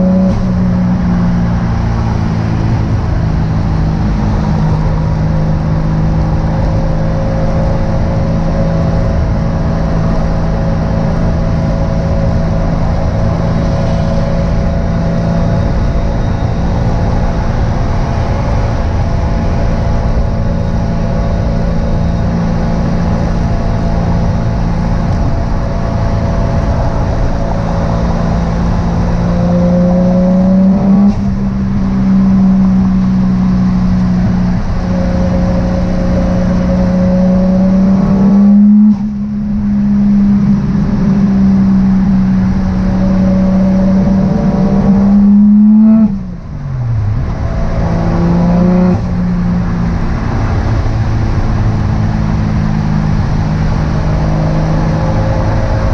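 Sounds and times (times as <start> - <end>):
car engine pulling under load: 0.0 - 55.9.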